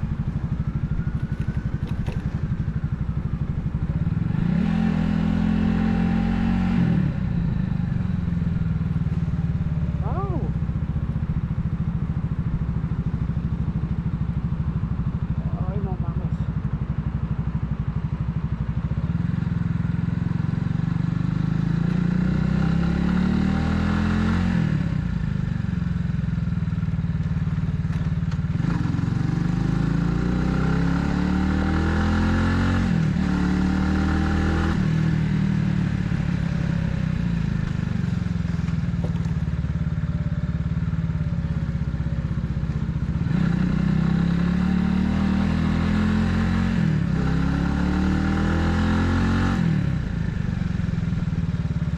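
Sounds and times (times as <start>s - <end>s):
motorcycle engine revving: 0.0s - 17.1s, 17.7s - 27.0s, 27.7s - 51.9s.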